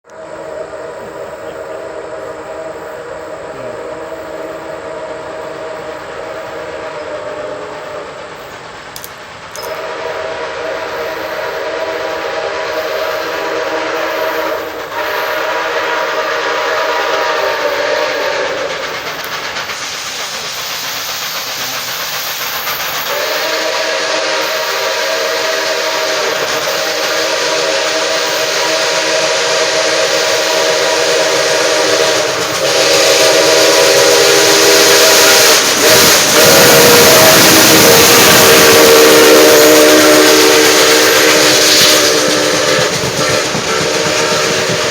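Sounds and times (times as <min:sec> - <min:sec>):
steam hissing: 0:00.0 - 0:44.9
steam locomotive chime whistle: 0:00.1 - 0:08.4, 0:09.0 - 0:18.8, 0:23.0 - 0:44.9.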